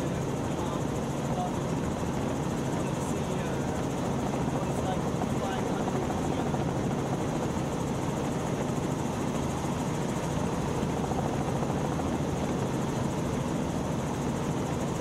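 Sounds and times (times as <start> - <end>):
helicopter rotor pulsing: 0.0 - 15.0.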